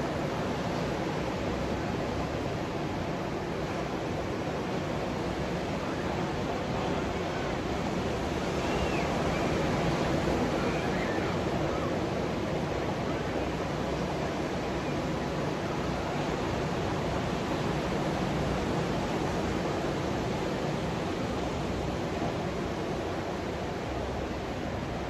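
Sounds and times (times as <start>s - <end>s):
ocean surf breaking on beach: 0.0s - 25.0s.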